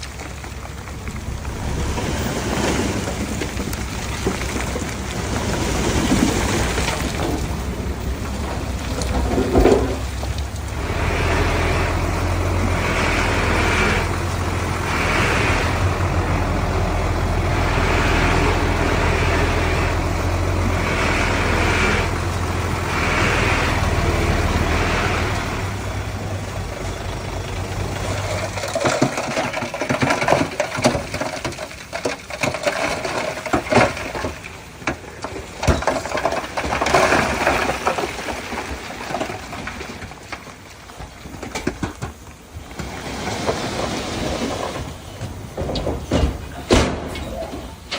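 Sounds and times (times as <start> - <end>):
knocks and clatter: 0.0 - 21.4, 23.6 - 47.9
diesel machinery engine drone: 0.0 - 47.9.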